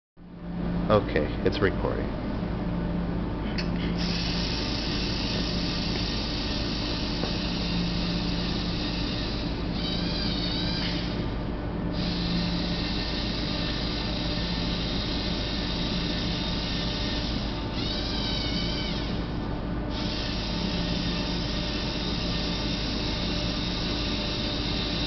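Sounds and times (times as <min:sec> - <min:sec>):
higher wavering motor whine: 0:00.3 - 0:25.0
robot drive motors whining: 0:03.9 - 0:25.0.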